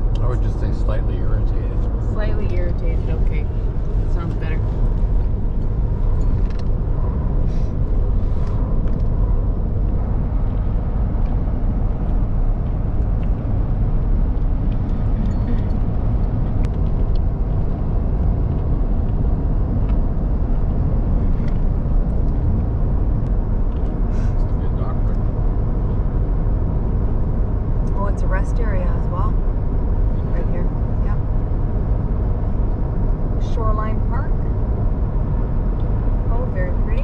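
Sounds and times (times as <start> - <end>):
road and engine rumble in truck cab: 0.0 - 37.0.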